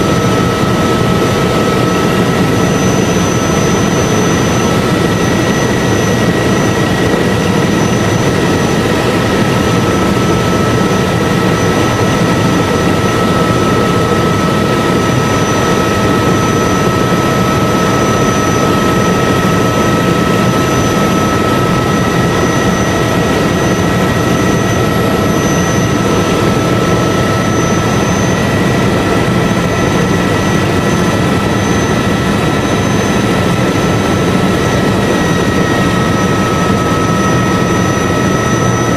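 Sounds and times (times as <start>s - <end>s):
helicopter engine and rotor noise: 0.0s - 38.9s
high-pitched whining tones: 0.0s - 38.9s.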